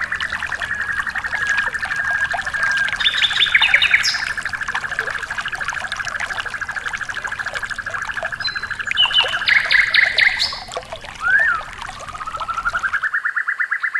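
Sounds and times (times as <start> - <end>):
bird trilling: 0.0 - 13.0
rising and falling bird call: 0.0 - 13.1
trickling water: 0.0 - 13.1.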